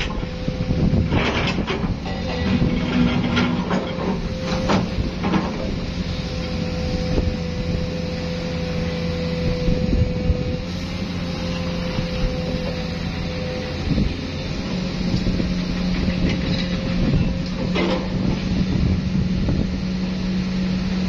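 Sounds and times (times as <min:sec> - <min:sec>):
crane engines humming: 0:00.0 - 0:21.0.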